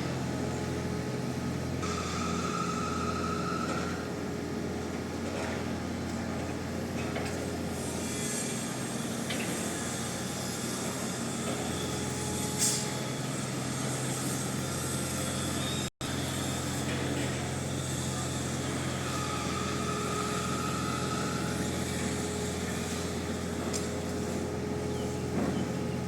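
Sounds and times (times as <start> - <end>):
heavy machinery engine humming: 0.0 - 26.0.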